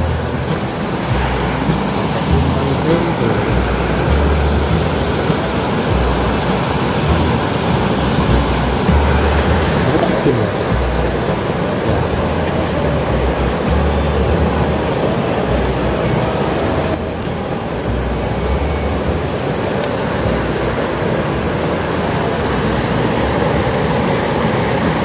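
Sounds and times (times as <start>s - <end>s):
low rumble: 0.0s - 25.0s
river water pouring over weir: 0.0s - 25.0s.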